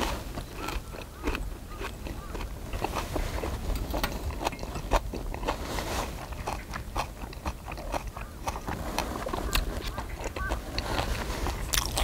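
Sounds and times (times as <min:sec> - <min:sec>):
man chewing with mouth smacks: 0:00.0 - 0:12.0.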